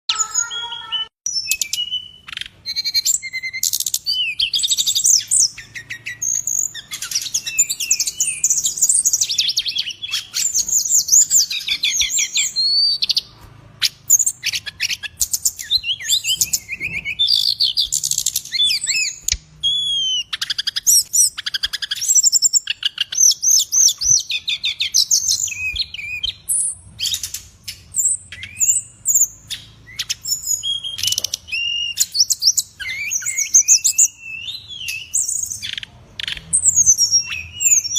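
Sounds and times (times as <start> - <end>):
songbird chirping and trilling: 0.0 - 37.9.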